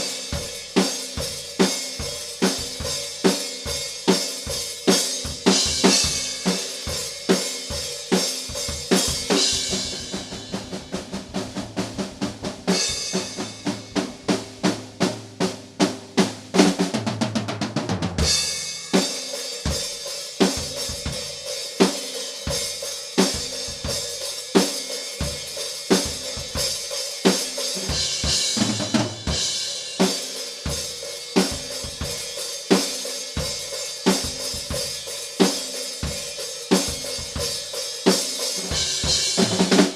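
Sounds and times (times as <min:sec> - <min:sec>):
fast drum fill across toms: 0:00.0 - 0:39.9
metal drum kit groove: 0:00.0 - 0:39.9.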